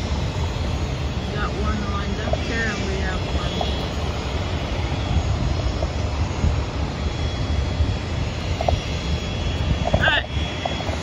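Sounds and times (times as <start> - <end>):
distant aircraft engines rumbling: 0.0 - 11.0.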